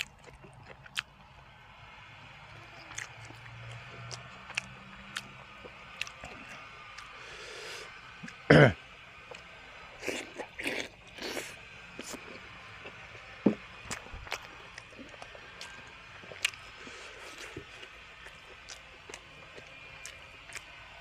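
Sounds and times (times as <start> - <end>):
person chewing and crunching food: 0.0 - 1.5, 2.6 - 21.0.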